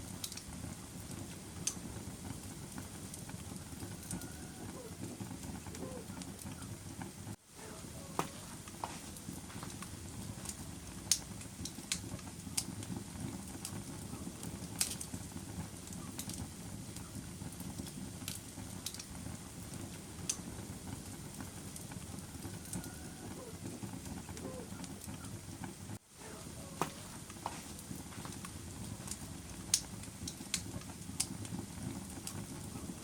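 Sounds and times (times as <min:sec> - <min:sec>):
fire pops and snaps: 0:00.0 - 0:33.0
wood fire crackling: 0:00.0 - 0:33.0.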